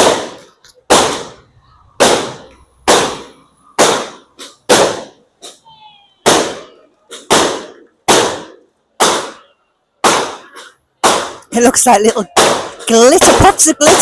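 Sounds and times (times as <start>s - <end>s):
fireworks bangs with echo: 0.0s - 5.6s, 6.2s - 14.0s.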